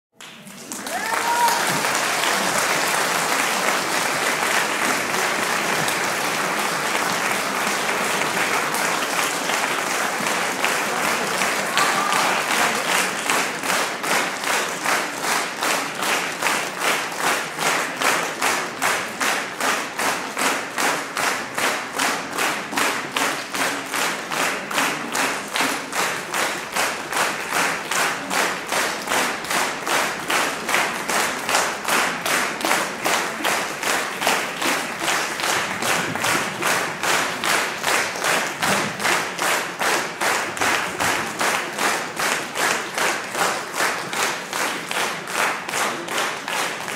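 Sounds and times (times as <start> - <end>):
audience applauding: 0.2 - 46.9
rhythmic synchronised clapping: 0.2 - 46.9.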